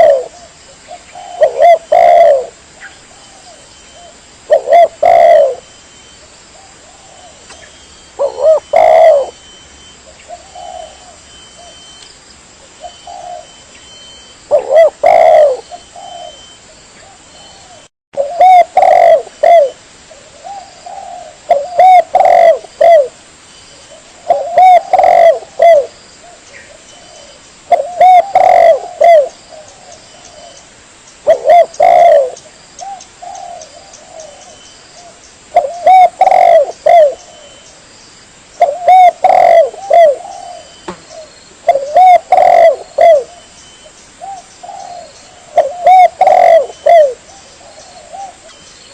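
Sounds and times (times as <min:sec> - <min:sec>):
dove cooing: 0:00.0 - 0:05.7, 0:06.6 - 0:11.9, 0:12.8 - 0:23.2, 0:23.9 - 0:30.6, 0:31.2 - 0:37.7, 0:38.6 - 0:48.9.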